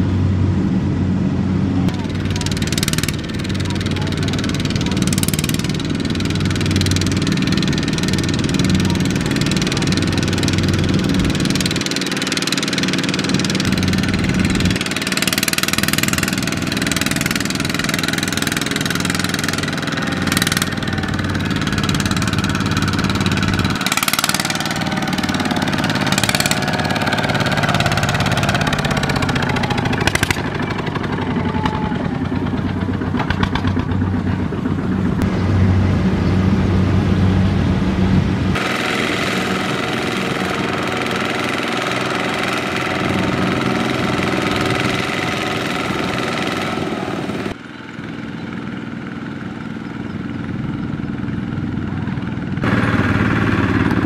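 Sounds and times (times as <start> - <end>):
diesel tractor engines running: 0.0 - 54.0.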